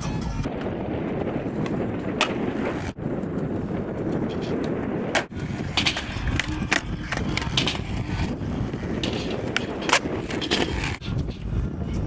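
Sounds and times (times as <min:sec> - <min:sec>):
skateboard wheels rolling on pavement: 0:00.4 - 0:12.0.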